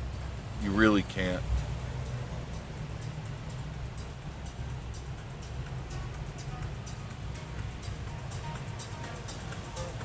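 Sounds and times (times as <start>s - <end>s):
car driving on wet road: 0.0s - 10.0s.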